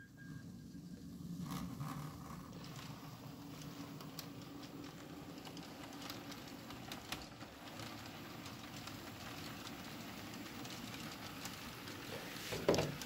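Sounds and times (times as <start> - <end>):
wheels clicking on rails: 0.0 - 13.0
faint model train motor hum: 0.8 - 13.0.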